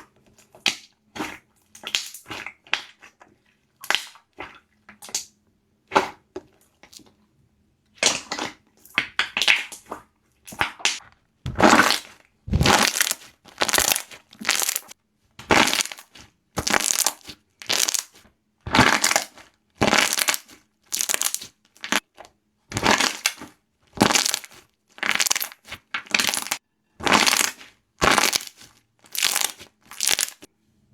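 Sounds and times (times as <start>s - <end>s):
slime squelching and popping: 0.0s - 3.2s, 3.8s - 7.1s, 8.0s - 30.5s.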